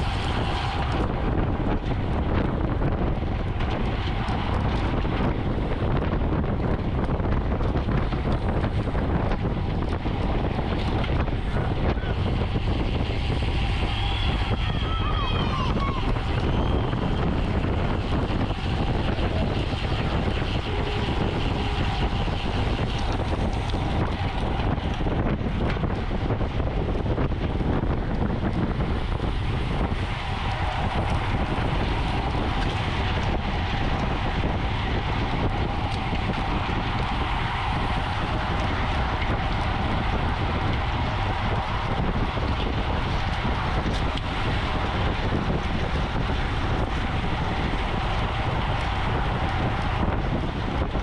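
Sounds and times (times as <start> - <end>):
road and tyre noise: 0.0 - 51.0
wind rushing over microphone: 0.0 - 51.0.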